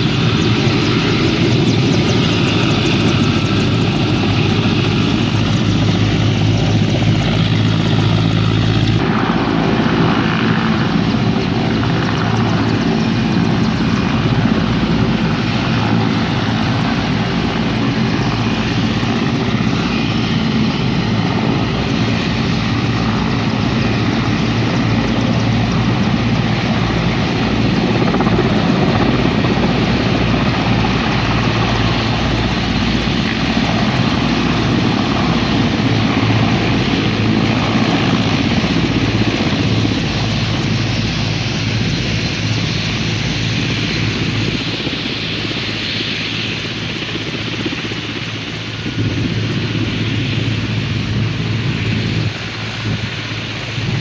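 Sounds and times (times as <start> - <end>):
helicopter rotor beat: 0.0 - 54.0
helicopter turbine rushing: 0.0 - 54.0.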